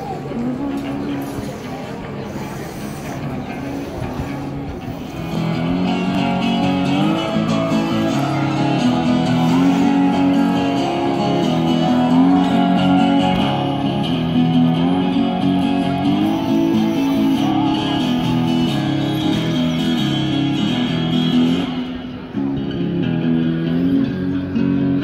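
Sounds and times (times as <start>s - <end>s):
guitar melody with sliding notes: 0.0s - 25.0s.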